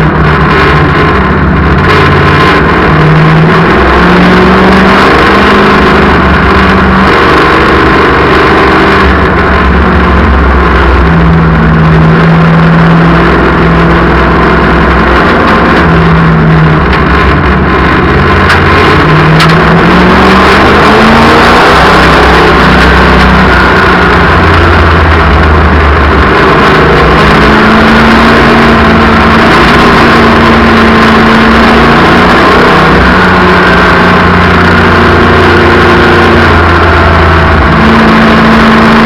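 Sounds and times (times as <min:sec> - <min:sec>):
race car engines: 0:00.0 - 0:39.0.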